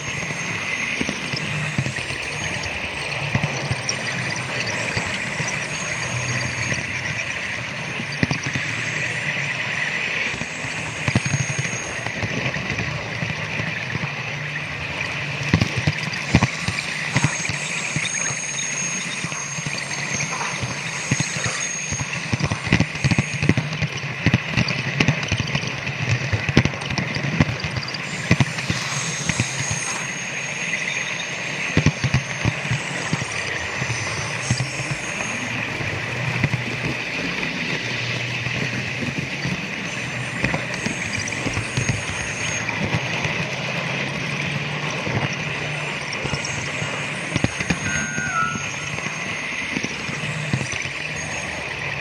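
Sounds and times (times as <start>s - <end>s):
thin high whine: 0.0s - 52.0s.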